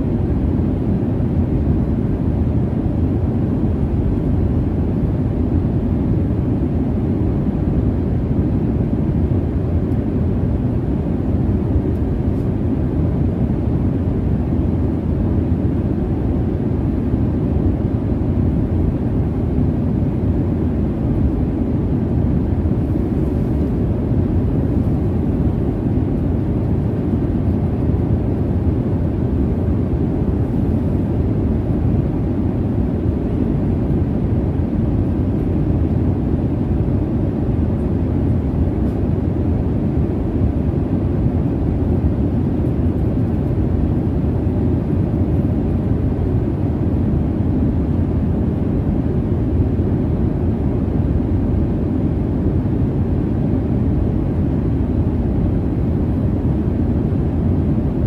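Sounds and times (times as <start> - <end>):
airliner cabin engine roar: 0.0 - 58.0.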